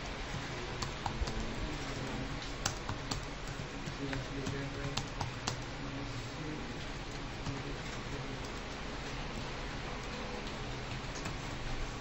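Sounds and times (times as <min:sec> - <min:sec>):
keyboard typing: 0:00.0 - 0:05.7, 0:06.8 - 0:11.9.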